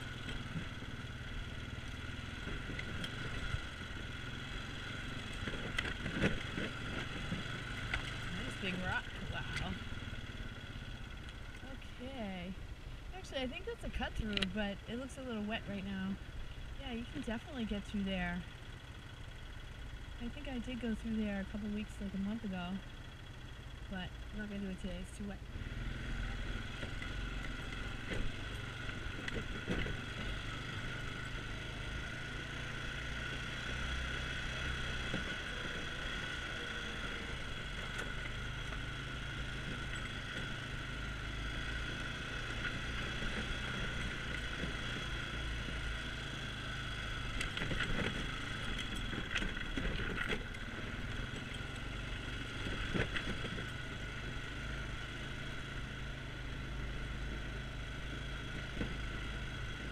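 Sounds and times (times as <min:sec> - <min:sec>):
atv engine droning: 0:00.0 - 0:59.9.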